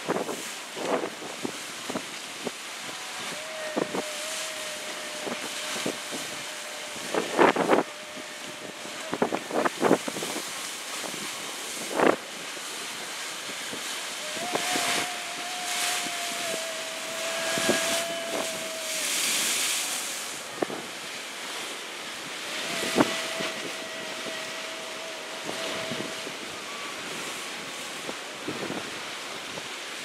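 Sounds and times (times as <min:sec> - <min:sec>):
waves crashing on rock: 0:00.0 - 0:30.0
wind buffeting microphone: 0:00.0 - 0:30.0.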